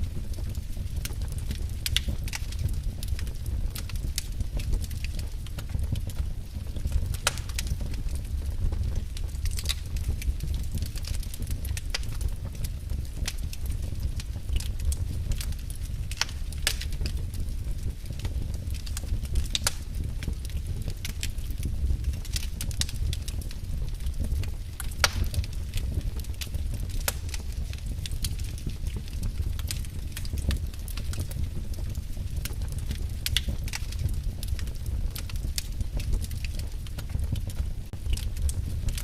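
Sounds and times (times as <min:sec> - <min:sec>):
low rumble of flames: 0:00.0 - 0:39.0
wood fire crackling and popping: 0:00.0 - 0:39.0.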